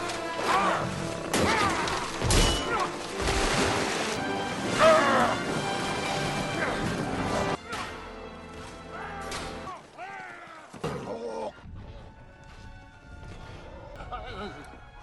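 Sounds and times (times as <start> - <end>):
orchestral film score: 0.0 - 15.0.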